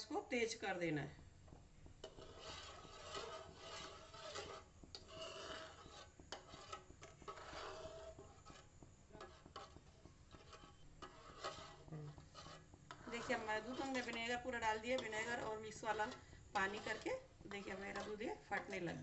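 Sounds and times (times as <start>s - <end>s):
spoon scraping in a pot: 1.5s - 19.0s.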